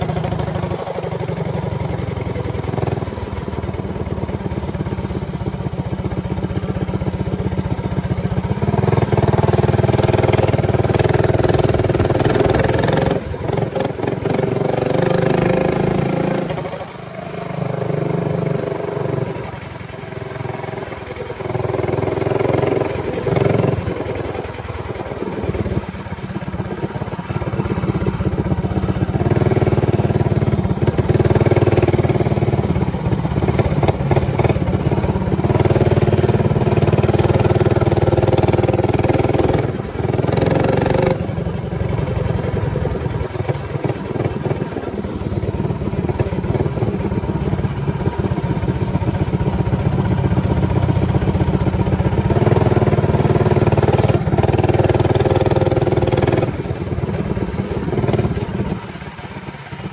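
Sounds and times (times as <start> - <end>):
minibike engine running hard: 0.0 - 59.9.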